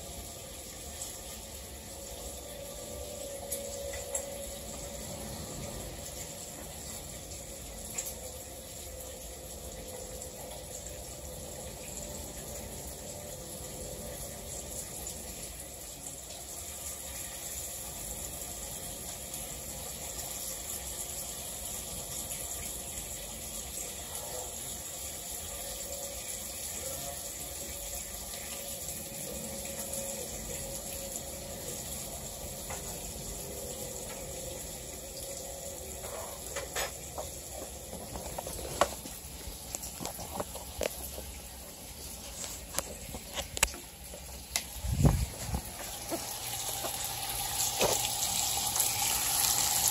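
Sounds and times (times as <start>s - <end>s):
food sizzling in a frying pan: 0.0s - 49.9s.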